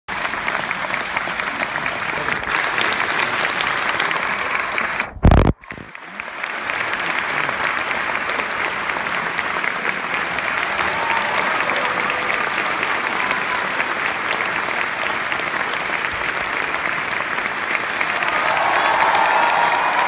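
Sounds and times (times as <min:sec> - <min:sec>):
audience applauding: 0:00.1 - 0:20.0.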